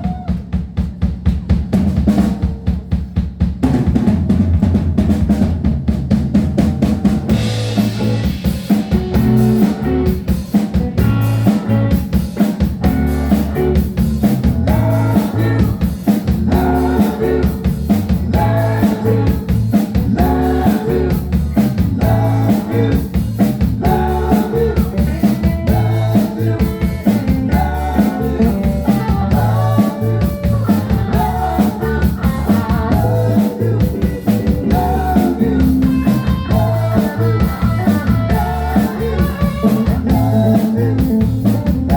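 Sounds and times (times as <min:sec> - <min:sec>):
drum kit beat: 0:00.0 - 0:41.9
guitar: 0:07.0 - 0:41.9.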